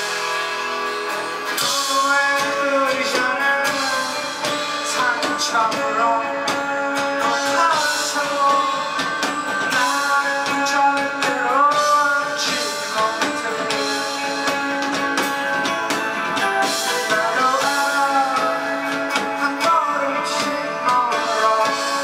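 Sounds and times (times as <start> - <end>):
drum kit with cymbal hits: 0.0 - 22.0
person singing: 0.0 - 22.0
strummed guitars: 0.0 - 22.0.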